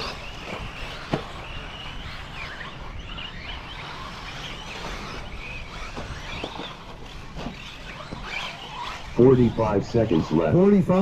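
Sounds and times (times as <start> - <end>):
rc buggy motors whining: 0.0 - 11.0.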